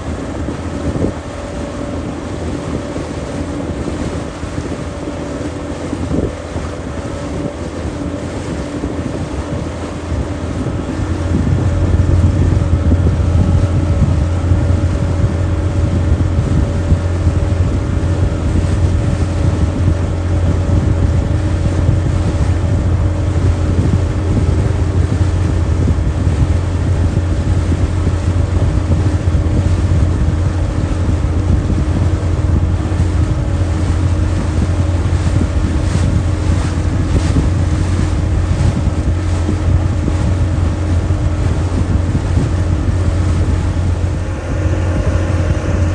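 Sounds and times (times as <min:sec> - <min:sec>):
motorboat engine running: 0:00.0 - 0:45.9
wind buffeting microphone: 0:00.0 - 0:45.9.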